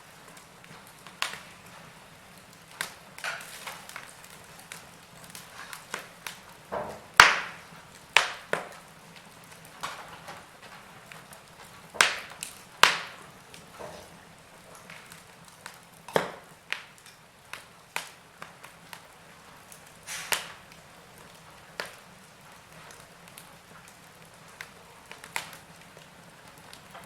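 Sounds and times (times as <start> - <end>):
burning logs crackling and popping: 0.0 - 27.0
faint hiss of fire: 0.0 - 27.0.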